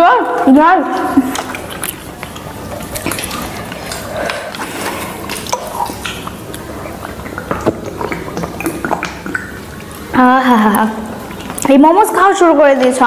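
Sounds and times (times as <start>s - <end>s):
gulping water from plastic bottle: 0.0s - 13.0s
wet chewing: 0.3s - 13.0s.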